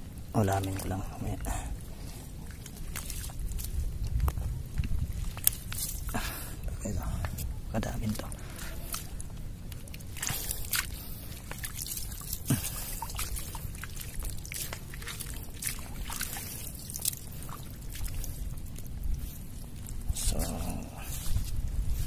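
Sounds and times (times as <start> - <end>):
steady low rumble: 0.0 - 22.0
water dripping and splashing: 0.0 - 22.0.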